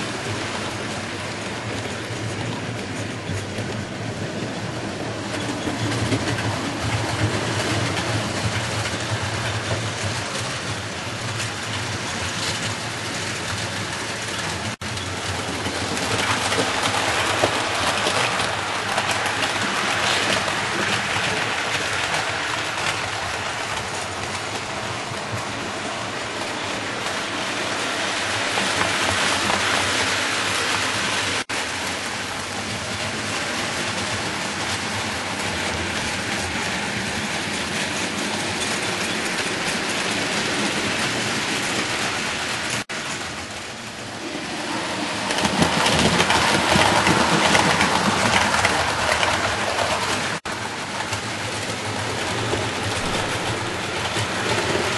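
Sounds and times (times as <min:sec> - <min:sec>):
model train wheels rattling on rail: 0:00.0 - 0:54.9.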